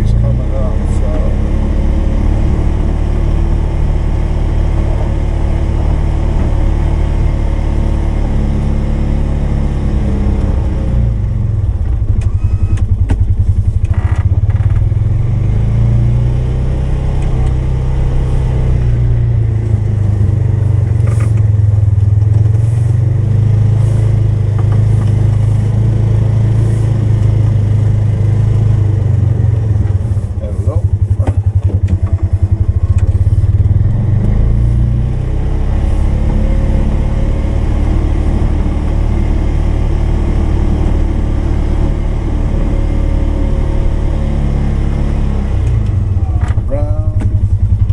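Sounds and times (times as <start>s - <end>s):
atv engine running under load: 0.0s - 47.9s.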